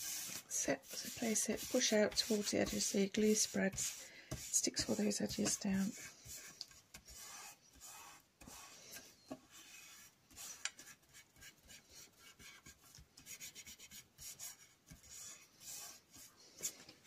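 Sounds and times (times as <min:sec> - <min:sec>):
hands rubbing paper: 0:00.0 - 0:16.8.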